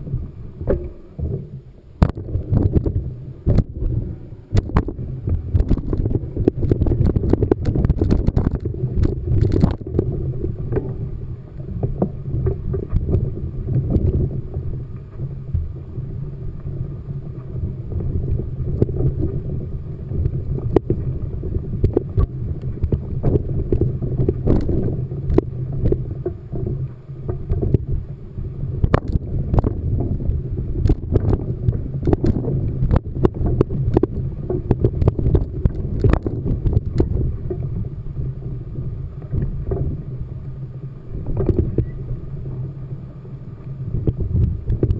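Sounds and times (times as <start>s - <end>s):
wind rumbling on microphone: 0.0s - 44.9s.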